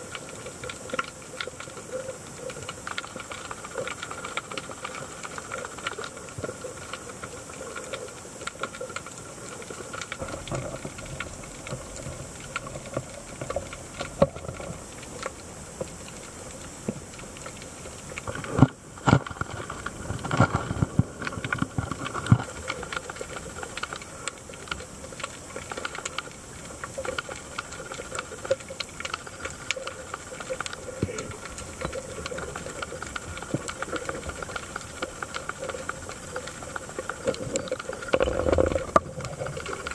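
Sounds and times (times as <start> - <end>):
underwater hiss and crackle: 0.0 - 39.9.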